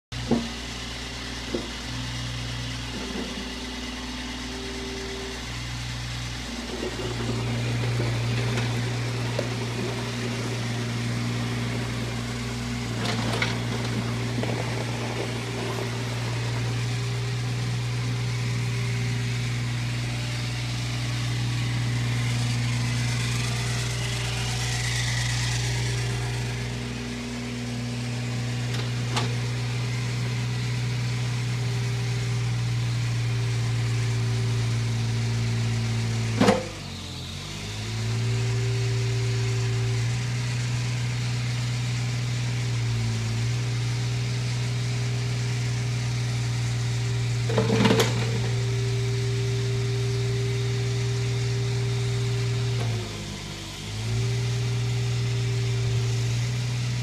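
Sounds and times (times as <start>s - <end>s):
excavator diesel engine running: 0.1s - 57.0s.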